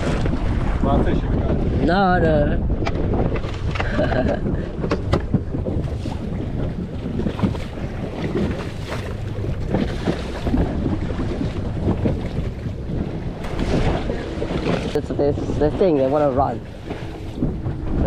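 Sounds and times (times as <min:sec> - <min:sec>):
water slapping inflatable boat: 0:00.0 - 0:18.0
wind buffeting microphone: 0:00.0 - 0:18.0.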